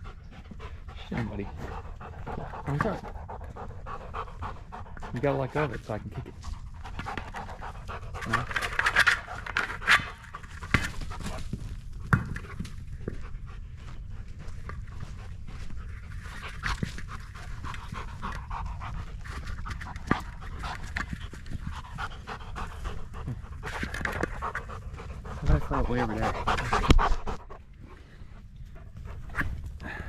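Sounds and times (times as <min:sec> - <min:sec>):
dog panting: 0:00.0 - 0:29.8.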